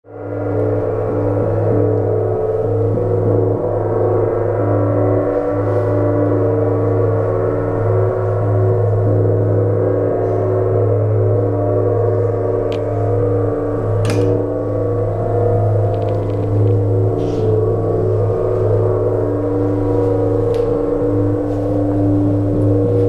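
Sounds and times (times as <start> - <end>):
large gong ringing: 0.1 - 23.0.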